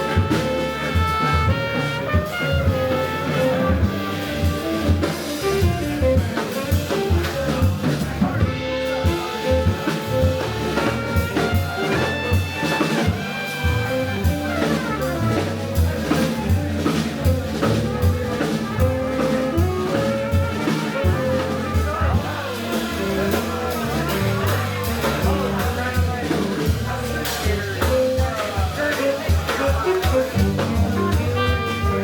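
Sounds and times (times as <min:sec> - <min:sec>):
bass line: 0:00.0 - 0:32.0
drum kit and cymbals: 0:00.0 - 0:32.0.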